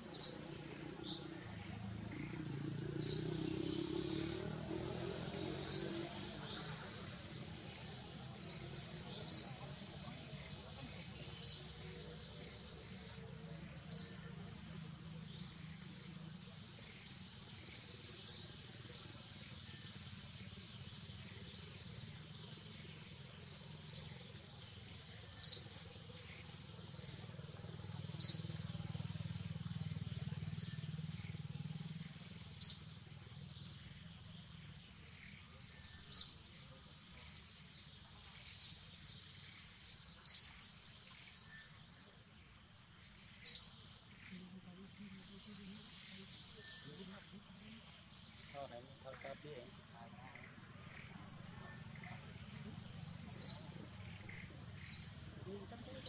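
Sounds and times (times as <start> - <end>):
bird chirping: 0.0 - 56.0
faint forest background: 0.0 - 56.0.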